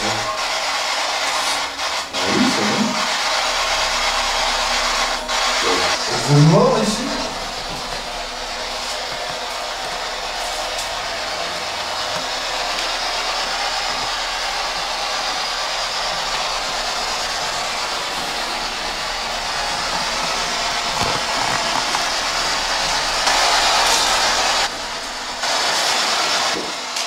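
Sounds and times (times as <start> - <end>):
static hiss: 2.2 - 27.0.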